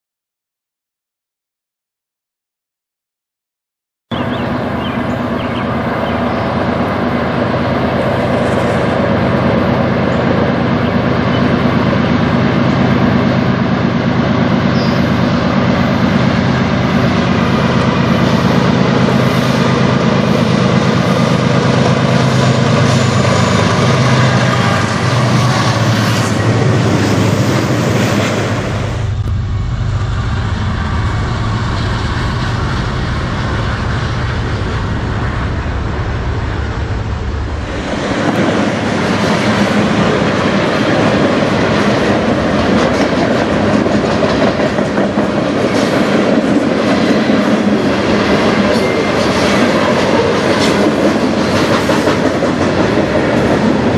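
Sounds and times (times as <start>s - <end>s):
freight cars rolling on rails: 4.1s - 53.9s
locomotive engines droning: 4.1s - 53.9s.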